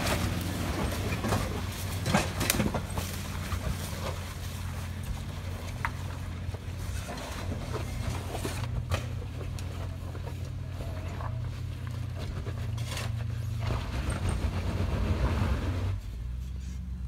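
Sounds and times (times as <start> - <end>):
truck engine droning under load: 0.0 - 17.0.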